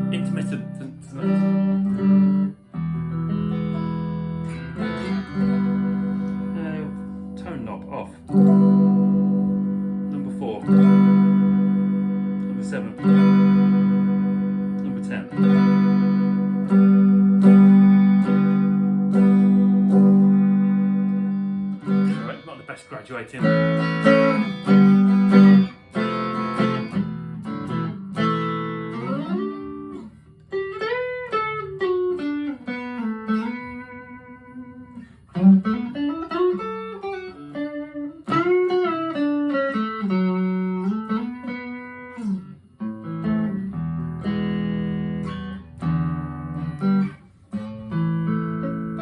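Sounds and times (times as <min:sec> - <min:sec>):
clean electric guitar: 0:00.0 - 0:49.0.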